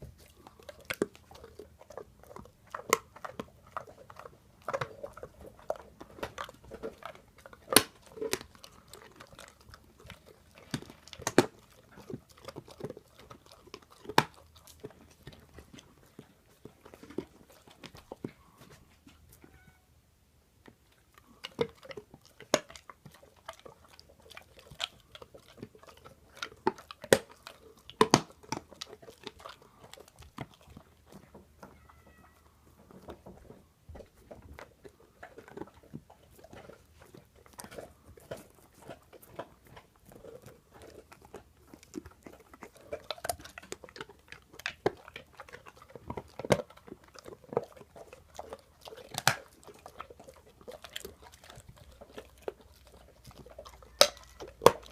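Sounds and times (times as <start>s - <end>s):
dog crunching a bone: 0.0s - 19.4s, 20.6s - 54.9s.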